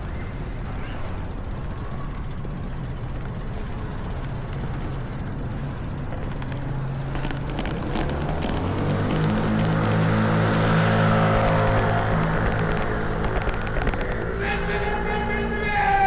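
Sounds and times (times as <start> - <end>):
street noise: 0.0 - 16.0
sharp clicks: 1.0 - 16.0.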